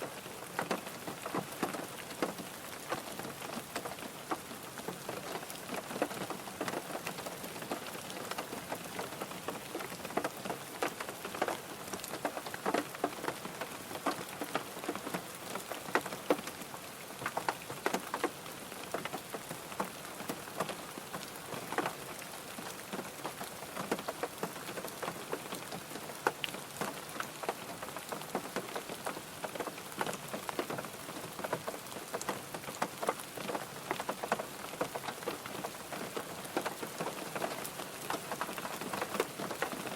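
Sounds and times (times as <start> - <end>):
rain drumming on car roof: 0.0 - 39.9.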